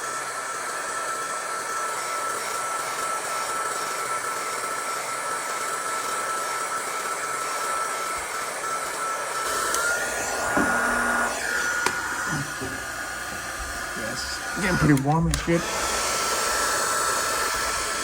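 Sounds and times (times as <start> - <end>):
heat gun blowing with whine: 0.0 - 18.0.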